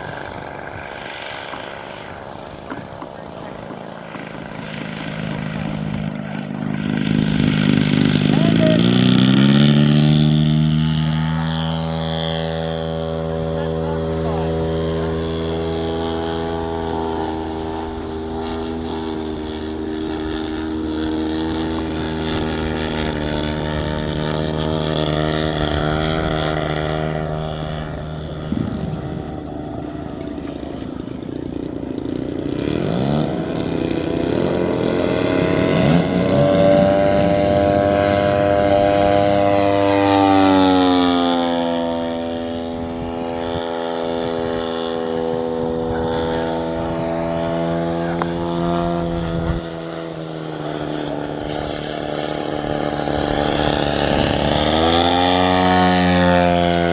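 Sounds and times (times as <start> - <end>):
model airplane engine passing: 0.0 - 56.9.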